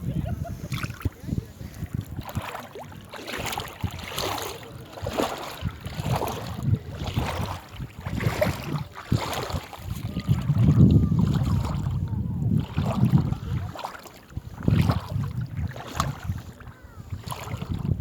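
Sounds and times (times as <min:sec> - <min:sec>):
wind buffeting microphone: 0:00.0 - 0:18.0
water splashing: 0:00.2 - 0:18.0.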